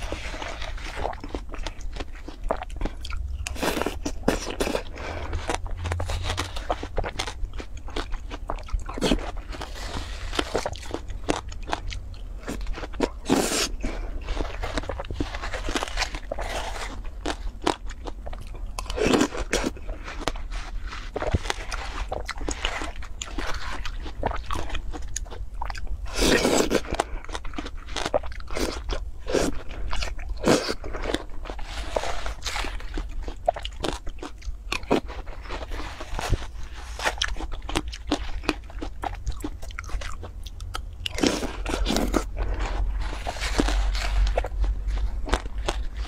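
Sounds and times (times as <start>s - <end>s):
crunching and chewing watermelon: 0.0s - 46.0s
steady low hum: 0.0s - 46.0s.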